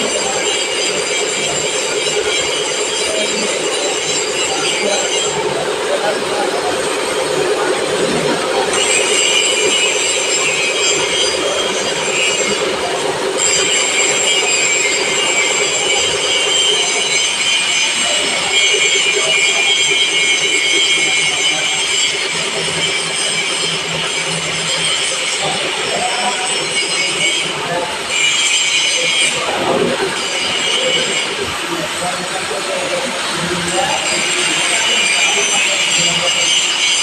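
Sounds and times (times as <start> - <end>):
milling machine whining: 0.0 - 37.0.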